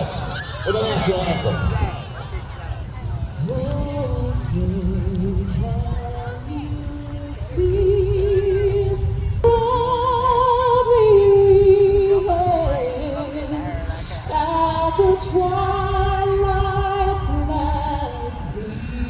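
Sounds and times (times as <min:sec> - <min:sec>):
woman singing with vibrato: 0:00.0 - 0:02.1, 0:03.4 - 0:19.0
low rumble: 0:00.0 - 0:19.0.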